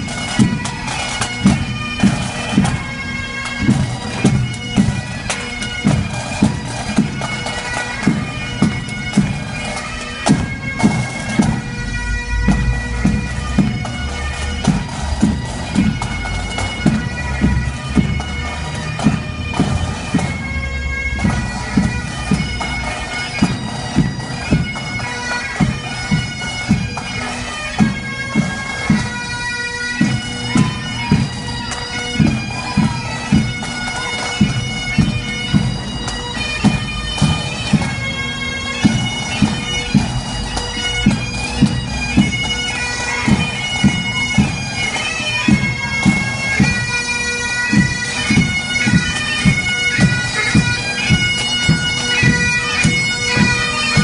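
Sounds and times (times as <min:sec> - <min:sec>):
bagpipes playing a melody: 0:00.0 - 0:54.0
marching drums: 0:00.0 - 0:54.0.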